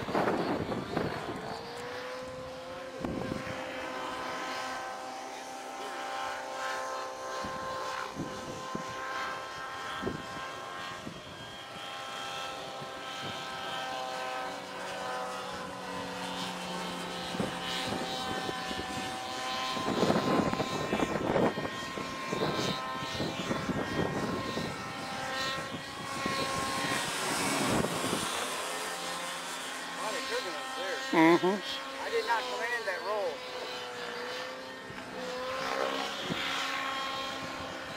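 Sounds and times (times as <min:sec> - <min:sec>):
model plane electric motor whining: 0:00.0 - 0:37.9.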